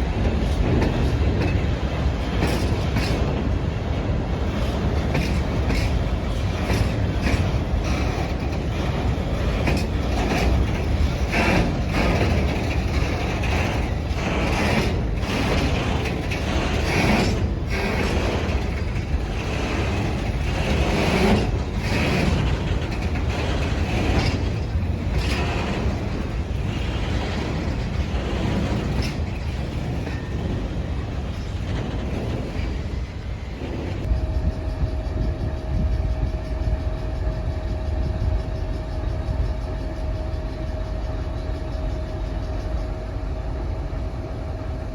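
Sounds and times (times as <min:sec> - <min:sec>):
locomotive engine humming: 0:00.0 - 0:44.9
train rumbling past: 0:00.0 - 0:44.9.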